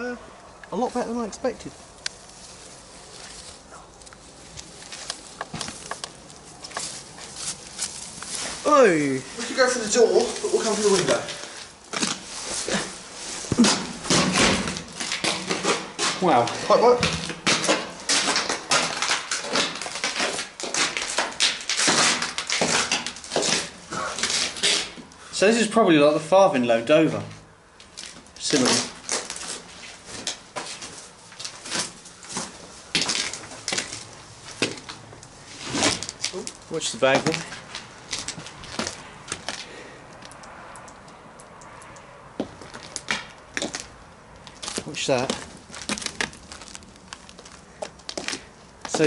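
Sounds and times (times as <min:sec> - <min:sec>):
footsteps crunching on gritty concrete: 0:00.8 - 0:25.1, 0:27.0 - 0:40.4, 0:42.4 - 0:49.0.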